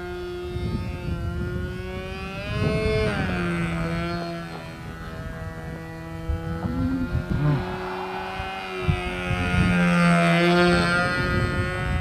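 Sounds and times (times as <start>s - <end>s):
model plane engine buzzing drone: 0.0s - 12.0s
wind rumble on microphone: 0.0s - 12.0s.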